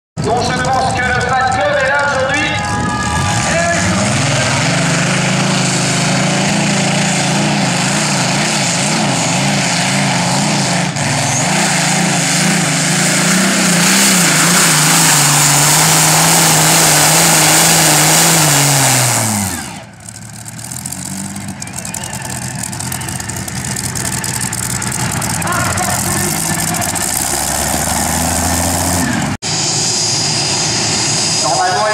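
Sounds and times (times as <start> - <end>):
tractor engine at full throttle: 0.2 - 31.9.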